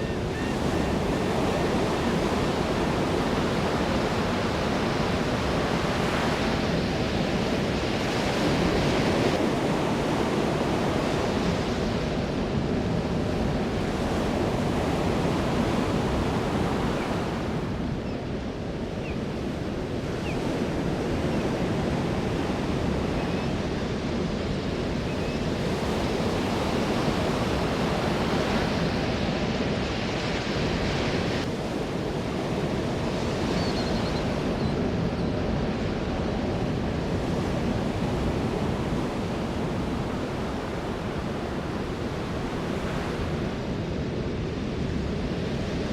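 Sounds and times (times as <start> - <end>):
ocean waves breaking on shore: 0.0 - 45.9.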